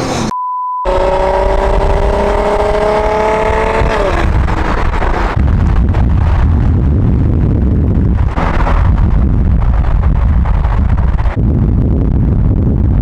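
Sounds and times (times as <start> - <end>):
car engine at full throttle: 0.0 - 0.3, 0.9 - 13.0
deep low rumble: 1.0 - 13.0.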